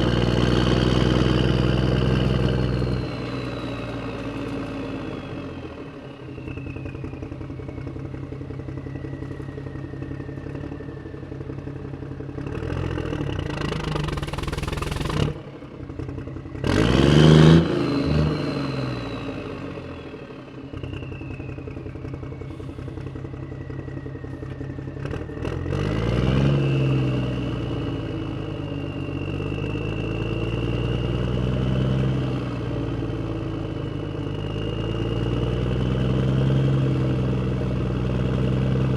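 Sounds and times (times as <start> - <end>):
engine running and revving: 0.0 - 38.9.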